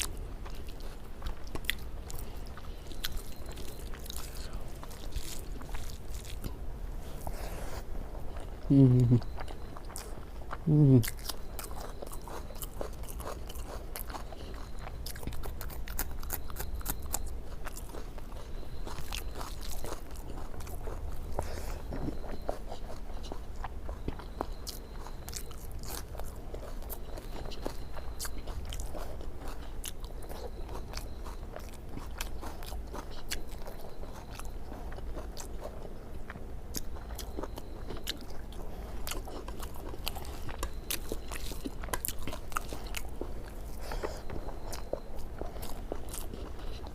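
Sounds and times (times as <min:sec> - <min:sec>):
person chewing and eating: 0:00.0 - 0:46.9.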